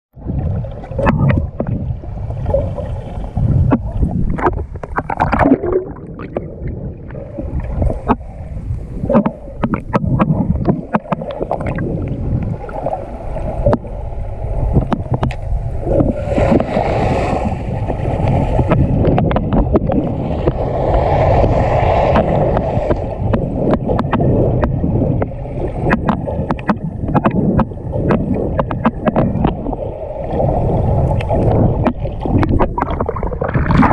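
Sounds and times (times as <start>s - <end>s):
underwater rushing rumble: 0.1s - 33.9s
small underwater clicks and knocks: 0.4s - 13.9s, 14.7s - 16.8s, 17.9s - 20.7s, 21.3s - 33.9s.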